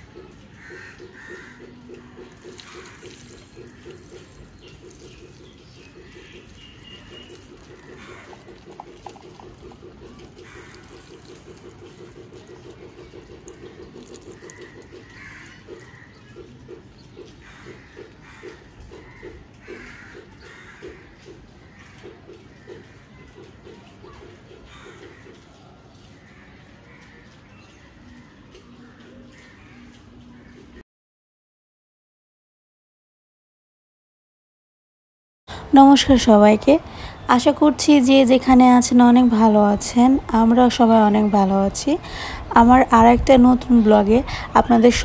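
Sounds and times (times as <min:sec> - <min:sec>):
birds chirping: 0:00.0 - 0:30.8, 0:35.5 - 0:45.0
water splashing onto plants: 0:00.0 - 0:30.8, 0:35.5 - 0:45.0.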